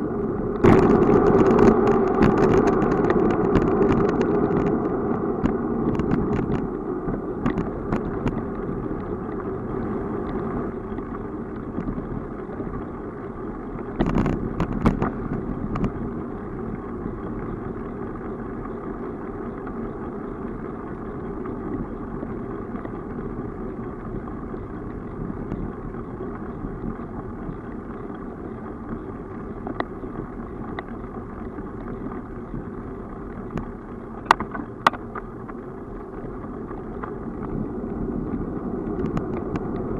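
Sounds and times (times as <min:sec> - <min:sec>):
bicycle rolling on asphalt: 0:00.0 - 0:39.9.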